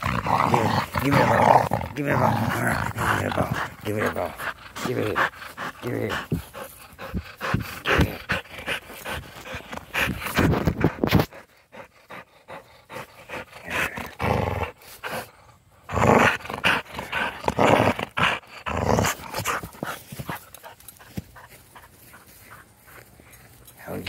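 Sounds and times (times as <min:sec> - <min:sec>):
dog growling in play: 0:00.0 - 0:21.9.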